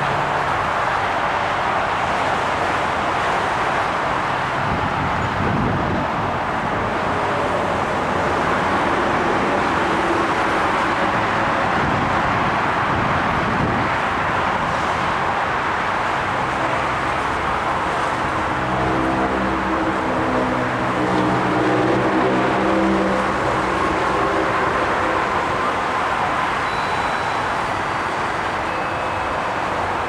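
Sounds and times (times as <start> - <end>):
train rushing past: 0.0 - 30.0
low diesel engine hum: 4.0 - 30.0.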